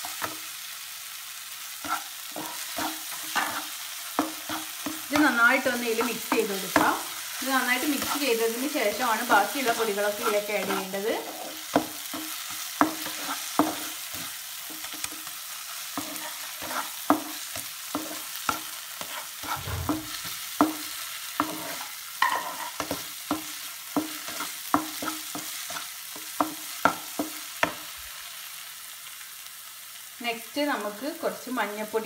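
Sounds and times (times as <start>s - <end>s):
food sizzling: 0.0s - 32.0s
spatula scraping frying pan: 1.7s - 27.8s.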